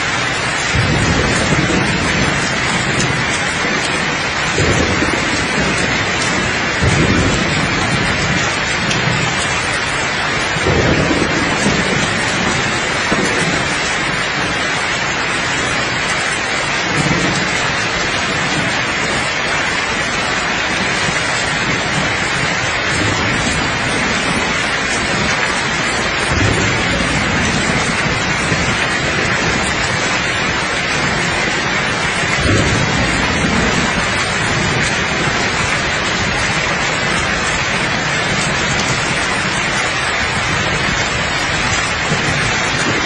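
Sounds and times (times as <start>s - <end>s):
distant thunder rumbling: 0.0s - 43.0s
heavy rain: 0.0s - 43.0s.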